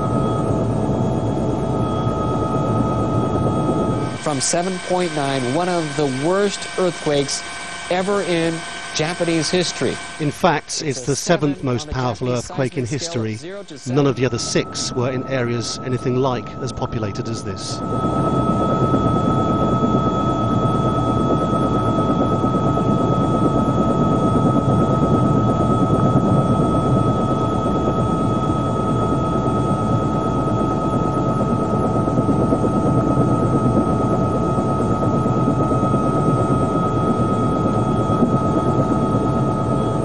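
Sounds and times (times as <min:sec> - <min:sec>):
helicopter rumble: 0:00.0 - 0:40.0
high whine: 0:00.0 - 0:40.0.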